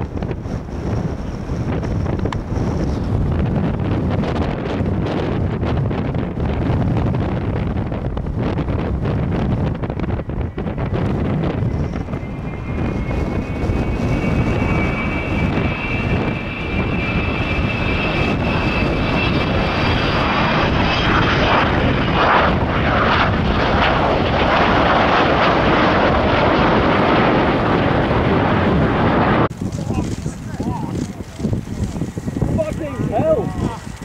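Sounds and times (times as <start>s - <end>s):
high steady jet whine: 0.0s - 34.0s
jet aircraft flypast roar: 0.0s - 34.0s.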